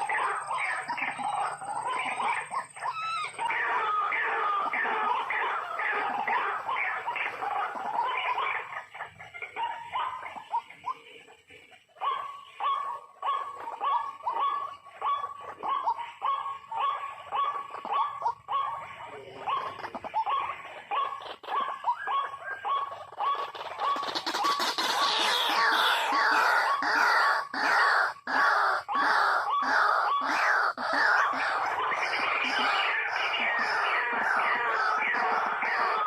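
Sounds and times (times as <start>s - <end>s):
waterhen croaking calls: 0.0s - 36.0s.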